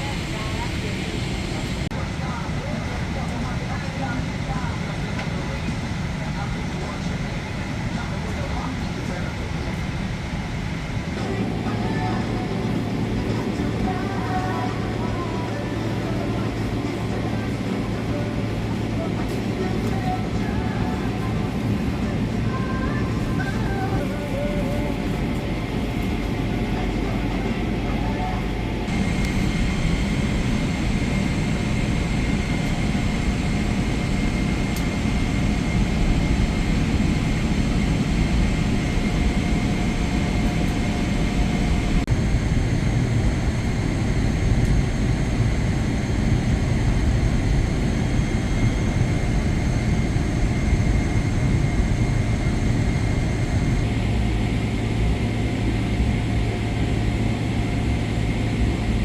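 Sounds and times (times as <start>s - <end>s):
jet engines and airflow rushing: 0.0s - 59.0s
low hum: 10.8s - 59.0s.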